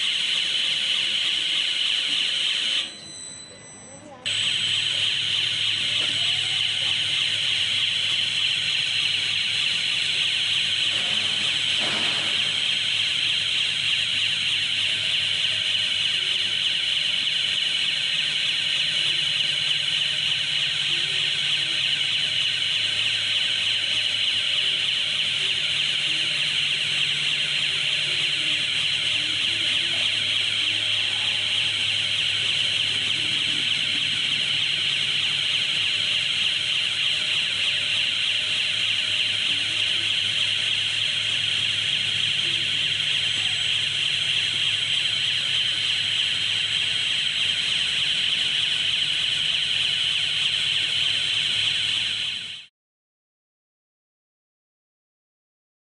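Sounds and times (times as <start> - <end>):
high-pitched warning alarm: 0.0 - 52.7.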